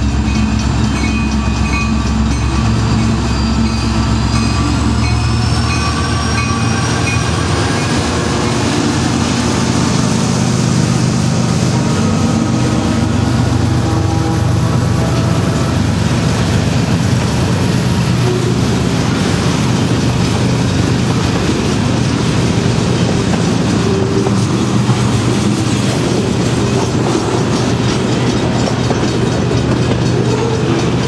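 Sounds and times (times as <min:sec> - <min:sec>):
diesel locomotives droning: 0:00.0 - 0:31.0.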